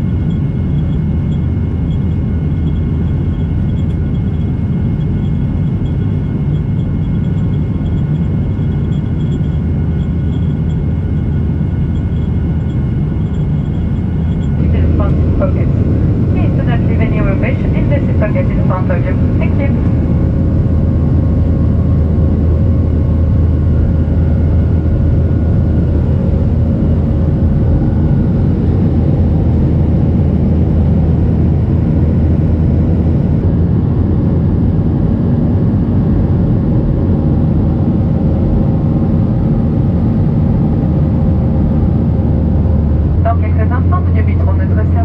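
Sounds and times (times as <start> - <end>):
faint steady hum: 0.0 - 45.0
jet engines roaring: 0.0 - 45.0.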